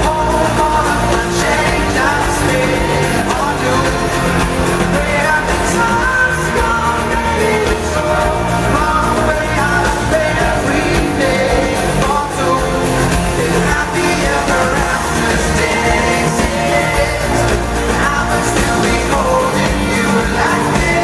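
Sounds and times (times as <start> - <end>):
live pop-rock band with singer: 0.0 - 21.0.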